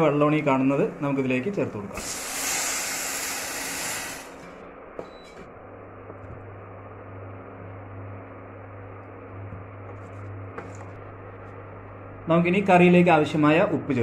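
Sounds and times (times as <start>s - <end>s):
induction cooktop fan humming: 0.0s - 14.0s.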